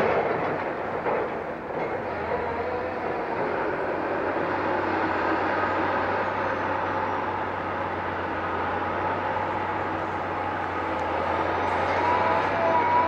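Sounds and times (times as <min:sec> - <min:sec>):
piling rig mechanical drone: 0:00.0 - 0:13.0.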